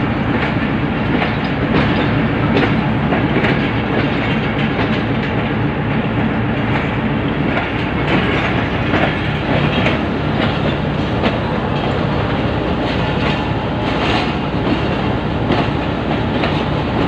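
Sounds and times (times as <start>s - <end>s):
wheels rumbling on rails: 0.0s - 17.0s
wheels clicking over rail joints: 0.3s - 5.6s, 6.6s - 17.0s.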